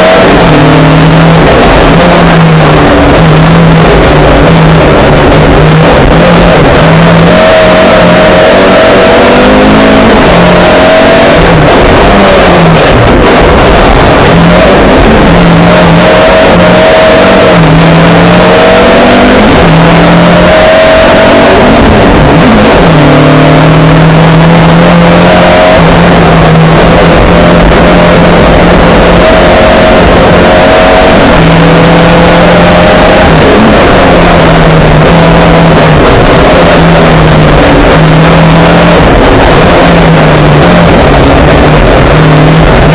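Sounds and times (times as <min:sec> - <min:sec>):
rally car engine revving: 0:00.0 - 0:42.9.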